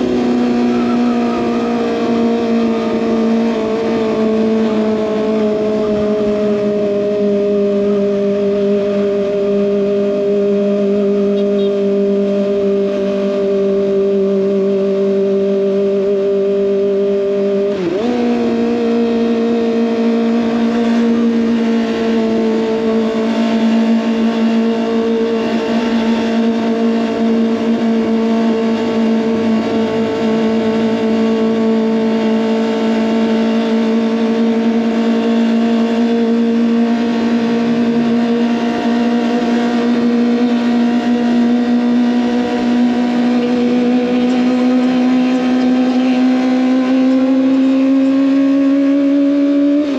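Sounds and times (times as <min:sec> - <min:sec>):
motorcycle engine at high revs: 0:00.0 - 0:49.9.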